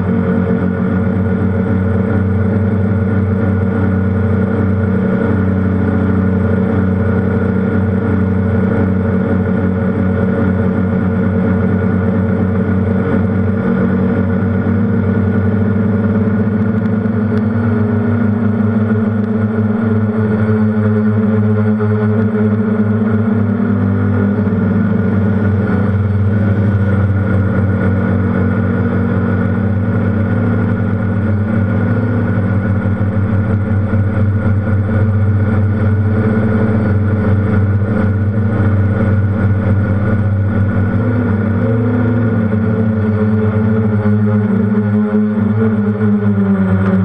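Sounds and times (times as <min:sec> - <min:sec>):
drone motors humming: 0:00.0 - 0:47.0.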